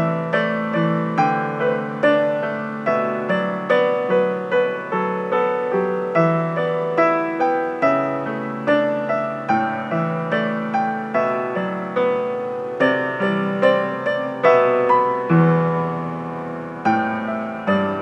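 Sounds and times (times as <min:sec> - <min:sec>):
slow gentle piano melody: 0:00.0 - 0:18.0.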